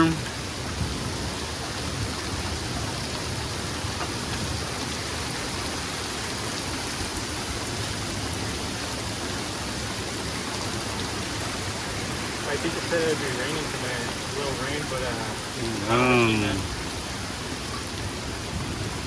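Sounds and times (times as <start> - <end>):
steady rain hissing: 0.0 - 19.0.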